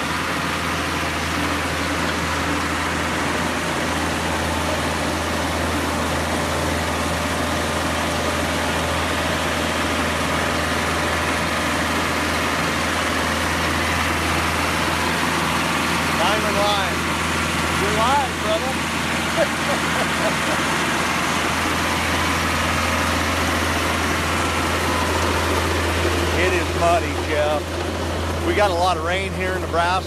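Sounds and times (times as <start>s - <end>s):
trencher engine running: 0.0s - 30.0s.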